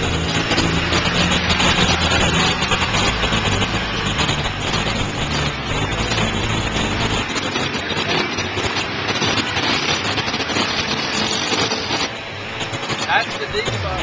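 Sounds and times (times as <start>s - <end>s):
low engine hum: 0.0s - 14.0s
off-road vehicle engines running: 0.0s - 14.0s
water splashing and rushing: 0.0s - 14.0s.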